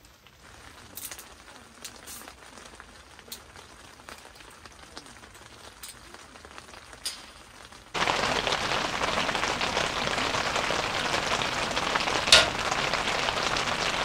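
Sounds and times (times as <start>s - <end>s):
rain pattering on a tent: 0.0s - 14.0s.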